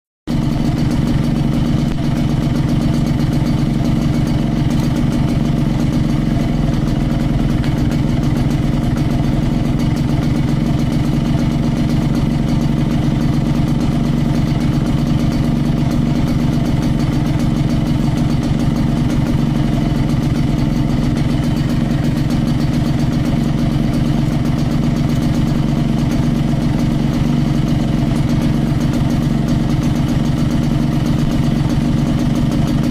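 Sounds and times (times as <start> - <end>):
motorcycle engine idling: 0.3 - 32.9.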